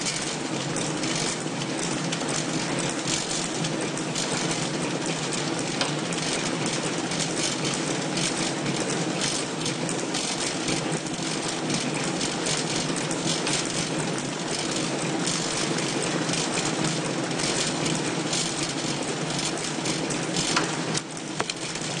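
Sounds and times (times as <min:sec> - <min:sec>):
packaging machine clattering: 0:00.0 - 0:22.0.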